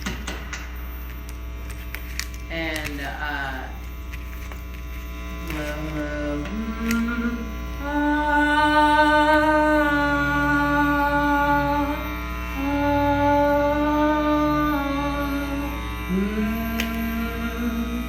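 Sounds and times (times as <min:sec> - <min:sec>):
electrical hum and buzz: 0:00.0 - 0:18.0
long droning notes: 0:00.0 - 0:18.0.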